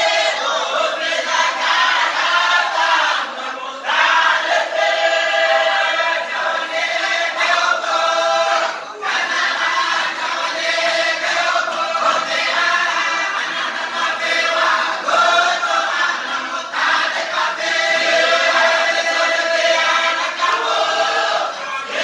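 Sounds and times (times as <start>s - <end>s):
men singing a chant: 0.0s - 22.0s.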